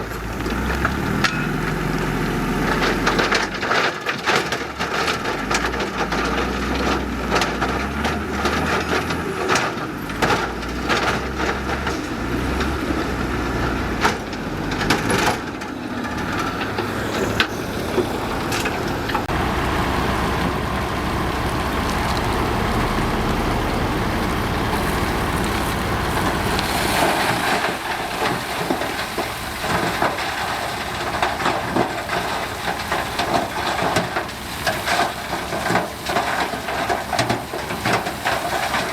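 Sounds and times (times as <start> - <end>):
diesel machinery engine: 0.0 - 38.9
soil and rock crunching: 0.0 - 38.9.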